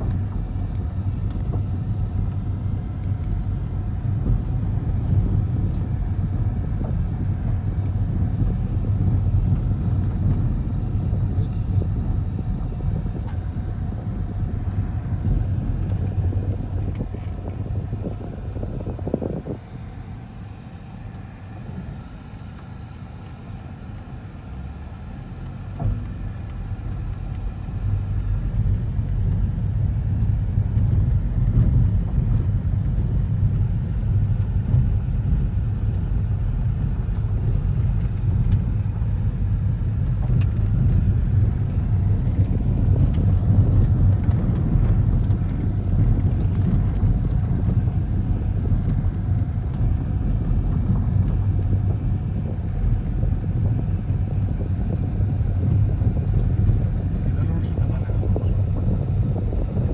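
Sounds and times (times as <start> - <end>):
car cabin road rumble on gravel: 0.0 - 59.9.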